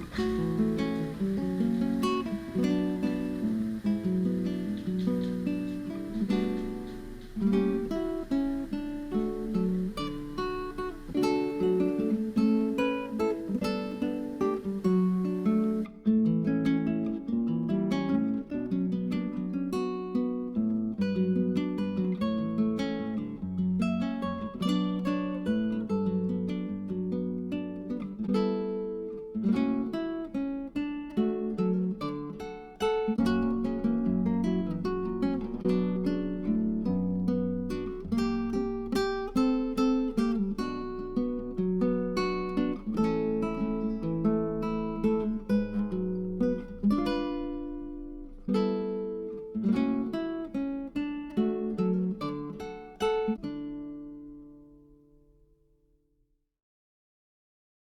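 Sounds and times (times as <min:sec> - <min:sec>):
acoustic guitar plucked notes: 0:00.0 - 0:55.5.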